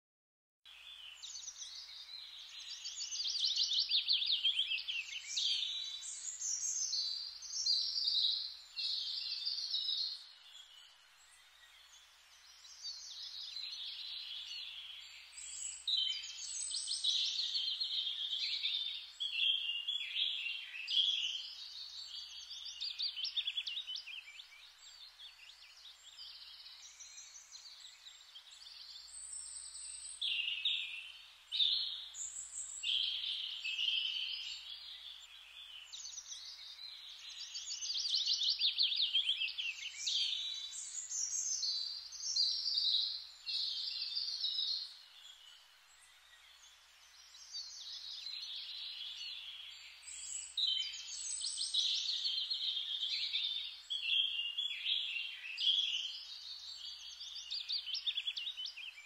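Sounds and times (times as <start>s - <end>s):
birds singing: 0.7s - 59.0s.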